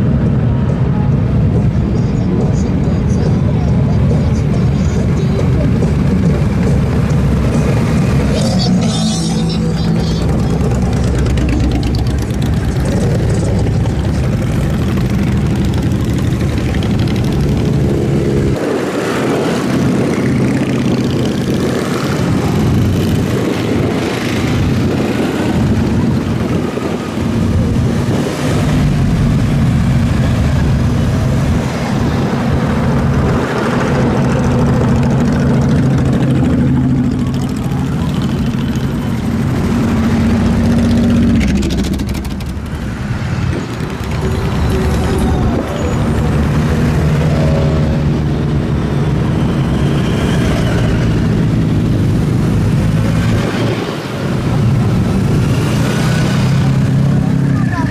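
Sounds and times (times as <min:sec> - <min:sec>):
motorcycle engines running: 0:00.0 - 0:57.9.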